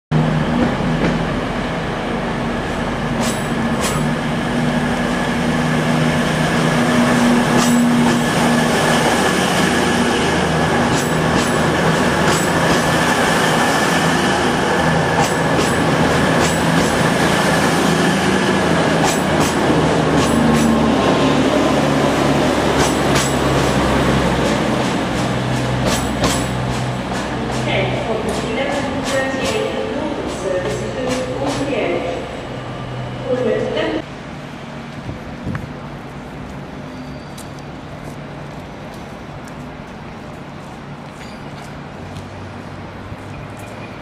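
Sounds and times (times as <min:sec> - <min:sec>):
steady train whine: 0:00.1 - 0:43.8
train diesel engines droning: 0:00.1 - 0:44.0.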